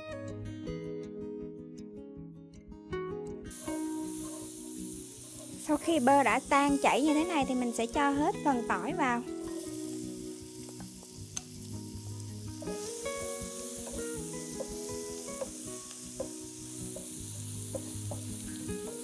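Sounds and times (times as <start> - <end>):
garlic sizzling in butter: 3.5 - 19.0.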